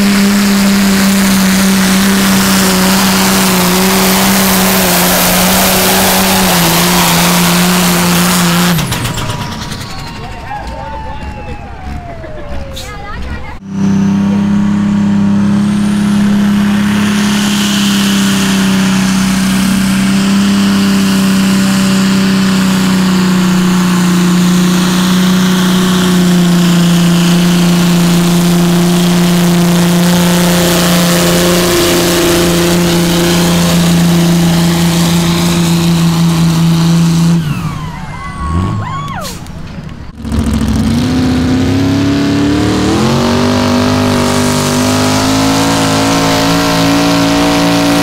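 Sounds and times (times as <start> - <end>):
tractor engine at full throttle: 0.0 - 48.0.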